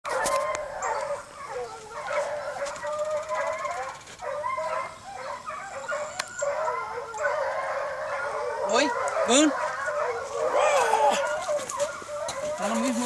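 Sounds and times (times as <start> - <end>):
hounds baying: 0.1 - 13.0.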